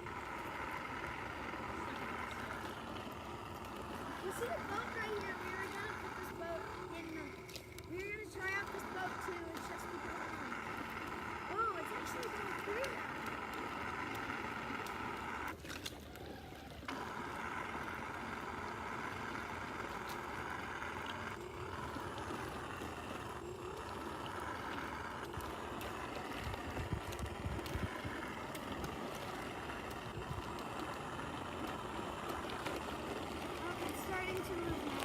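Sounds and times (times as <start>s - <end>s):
electric motor whining: 0.0s - 35.0s
water gurgling: 0.0s - 35.0s.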